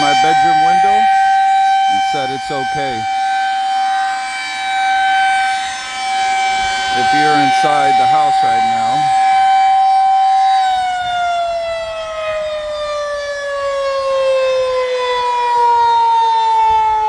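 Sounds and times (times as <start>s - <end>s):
tornado warning siren wailing: 0.0s - 17.0s.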